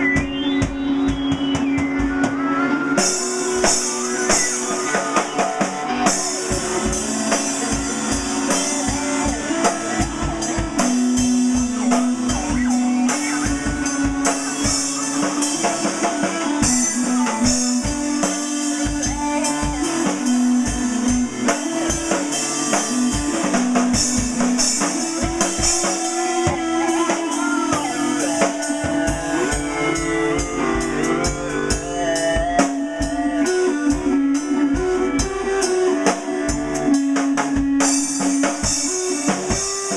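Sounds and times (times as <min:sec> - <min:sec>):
rock music with drums bass guitar: 0:00.0 - 0:39.9.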